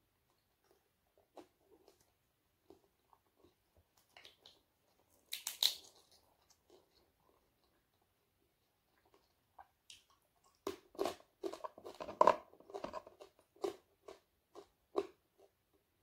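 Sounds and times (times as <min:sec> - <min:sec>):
crunchy chewing: 0:00.6 - 0:15.6.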